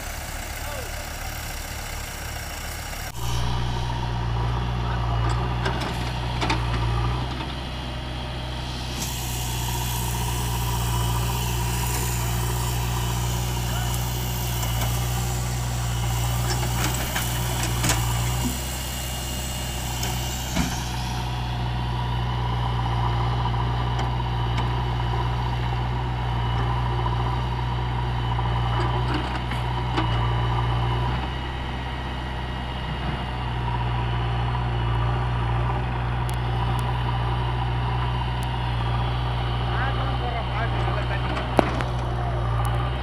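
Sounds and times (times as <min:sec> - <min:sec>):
diesel engines running: 0:00.0 - 0:43.0.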